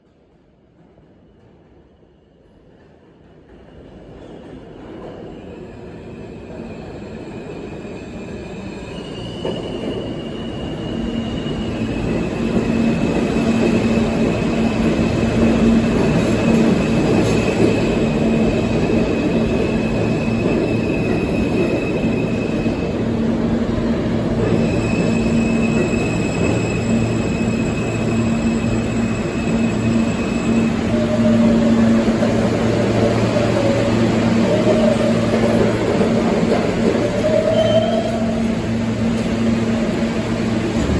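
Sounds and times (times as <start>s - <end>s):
subway train running: 0.0s - 40.9s.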